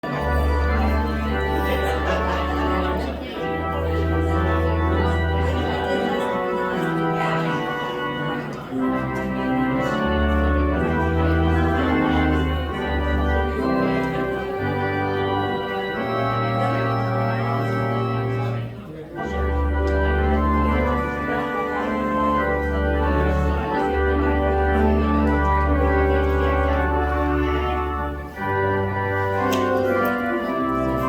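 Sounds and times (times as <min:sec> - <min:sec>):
organ playing sustained chords: 0:00.0 - 0:31.0.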